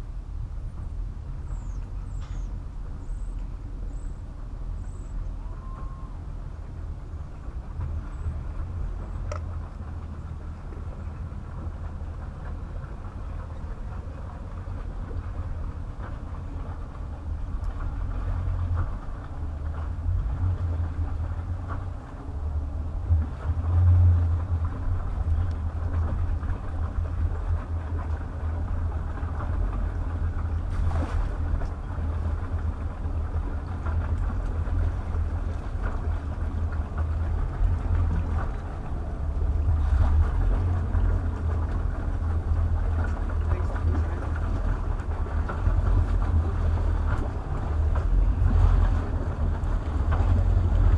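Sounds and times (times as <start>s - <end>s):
boat engines idling: 0.0s - 50.9s.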